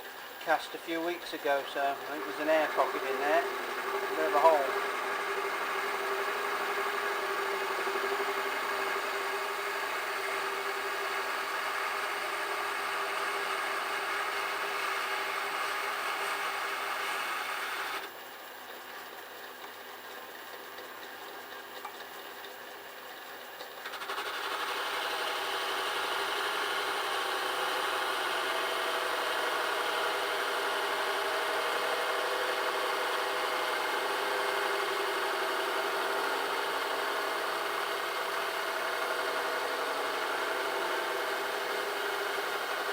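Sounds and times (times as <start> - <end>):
lathe motor whirring: 0.0 - 18.1, 23.8 - 42.9.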